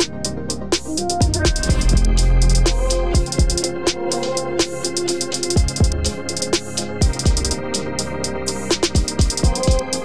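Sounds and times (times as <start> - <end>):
electronic music with drum machine: 0.0 - 10.0.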